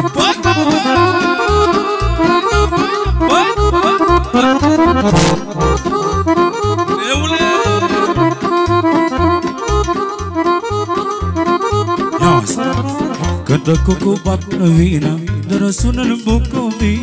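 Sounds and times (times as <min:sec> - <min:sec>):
accordion fast melody: 0:00.0 - 0:13.9
band bass beat: 0:00.0 - 0:17.0.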